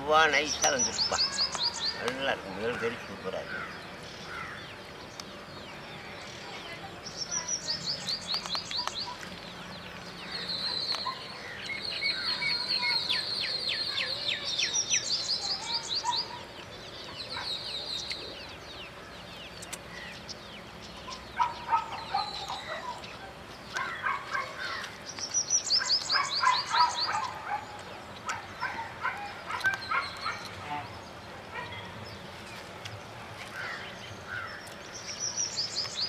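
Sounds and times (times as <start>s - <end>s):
small birds singing: 0.0s - 36.0s.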